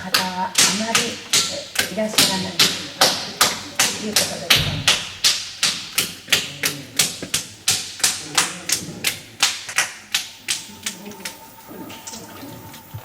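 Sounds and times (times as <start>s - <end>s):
clay being beaten with sharp slaps: 0.0s - 12.2s.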